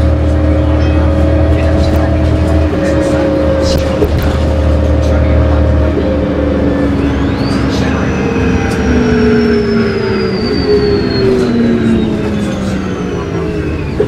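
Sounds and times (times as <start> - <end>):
bus engine drone and whine: 0.0 - 14.0.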